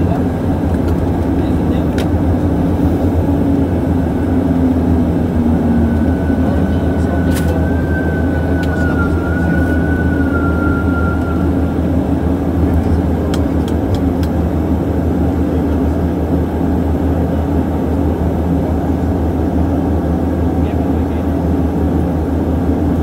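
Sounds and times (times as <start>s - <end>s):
high engine whine: 0.0s - 23.0s
propeller plane engine drone: 0.0s - 23.0s.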